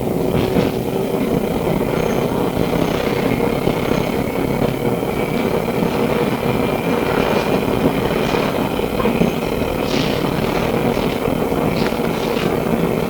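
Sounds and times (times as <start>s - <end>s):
steel wheels rumbling on rails: 0.0s - 13.0s
thin high whine: 0.0s - 13.0s.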